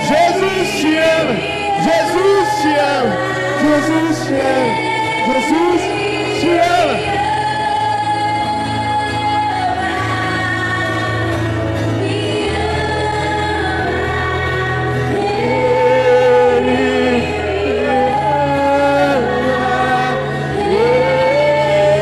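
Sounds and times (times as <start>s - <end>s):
sustained instrumental chords: 0.0s - 22.0s
women singing worship song: 0.0s - 22.0s.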